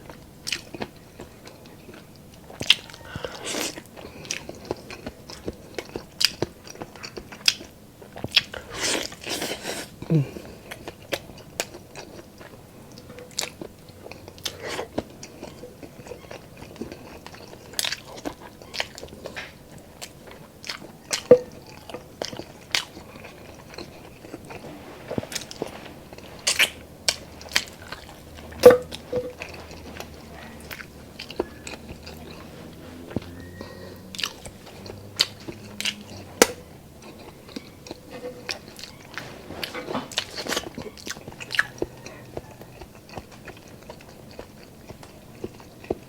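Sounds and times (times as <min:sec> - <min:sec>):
close chewing with crunches: 0:00.0 - 0:46.0.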